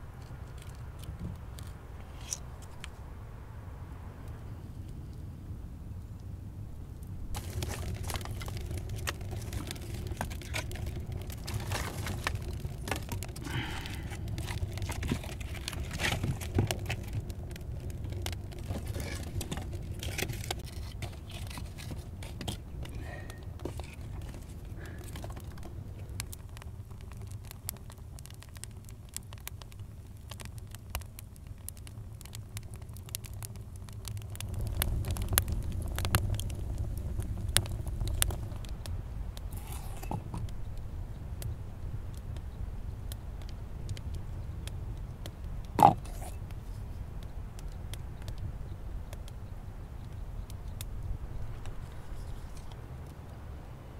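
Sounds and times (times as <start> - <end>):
wood fire crackling and popping: 0.0 - 3.0, 5.9 - 53.9
dry sticks rustling and snapping: 0.0 - 3.1, 7.3 - 49.4, 50.0 - 53.4.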